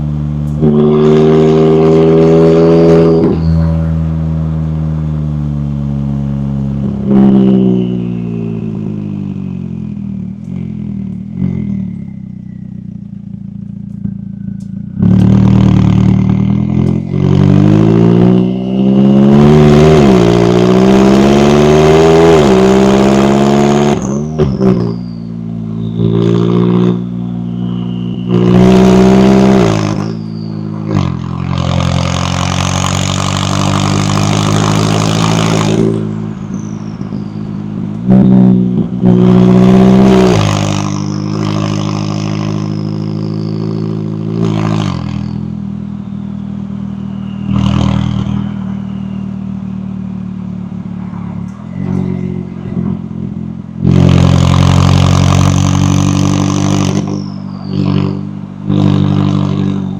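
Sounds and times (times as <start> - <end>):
car exhaust accelerating hard: 0.0 - 59.9.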